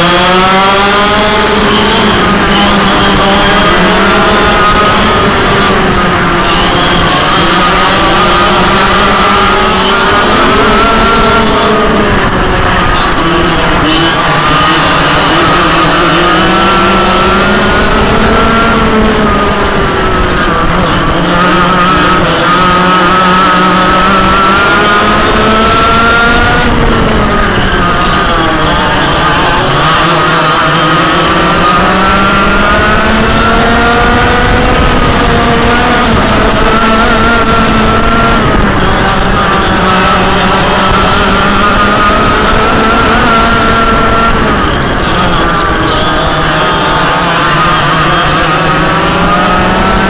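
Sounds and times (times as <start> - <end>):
kart engine revving: 0.0 - 50.0.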